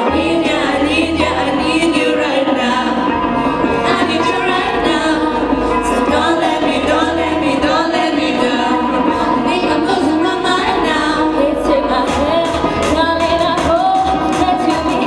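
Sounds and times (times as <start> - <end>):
amplified backing track: 0.0 - 15.0
female group singing pop: 0.0 - 15.0.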